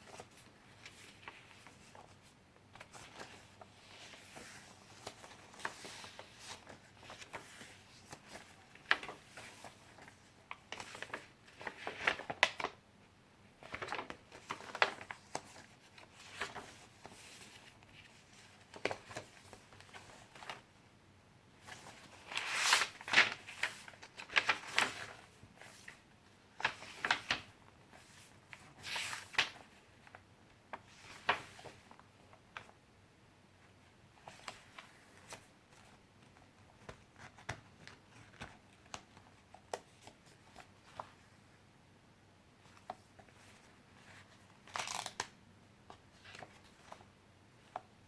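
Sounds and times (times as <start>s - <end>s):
paper pages rustling and flapping: 0.0s - 12.8s, 13.6s - 20.7s, 21.6s - 32.7s, 34.2s - 41.2s, 42.6s - 45.3s.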